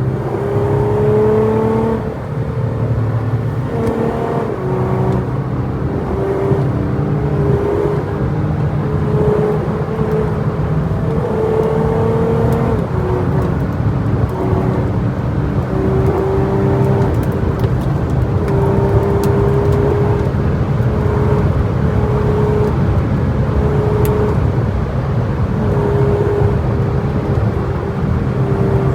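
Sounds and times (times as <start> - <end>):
vehicle engine whining: 0.0 - 28.9.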